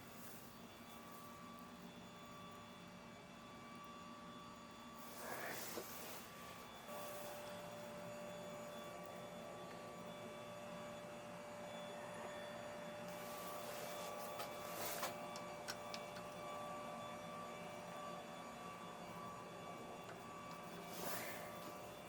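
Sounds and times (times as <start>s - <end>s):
lathe motor whining: 0.0s - 22.0s.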